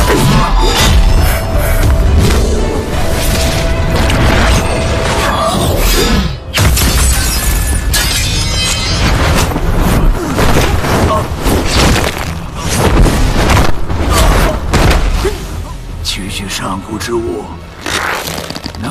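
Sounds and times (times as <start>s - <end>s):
dramatic orchestral music: 0.0s - 17.8s.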